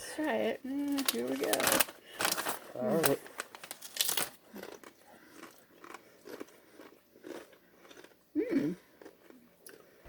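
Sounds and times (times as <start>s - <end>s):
chewing crunchy chips: 1.1s - 10.0s.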